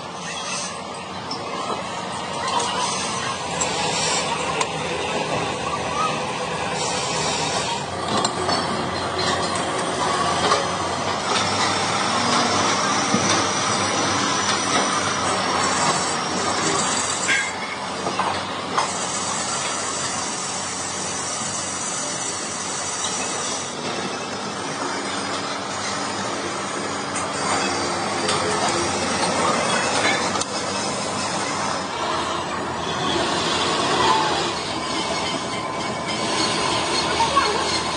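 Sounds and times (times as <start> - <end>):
lathe running: 0.0 - 37.9.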